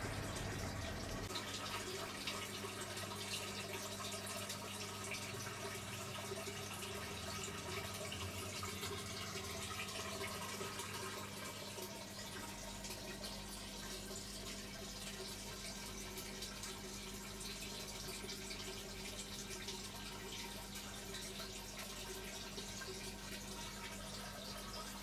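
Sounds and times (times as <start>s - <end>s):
water trickling through pipes: 0.0s - 25.0s.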